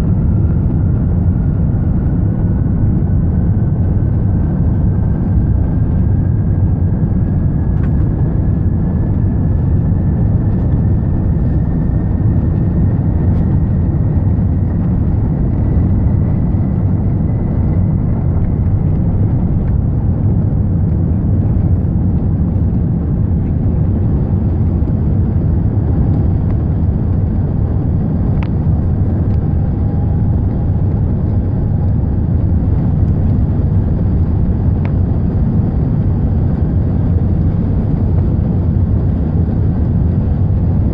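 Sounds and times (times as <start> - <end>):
airplane engines rumbling: 0.0 - 40.9
jet engine whine rising: 0.0 - 40.9.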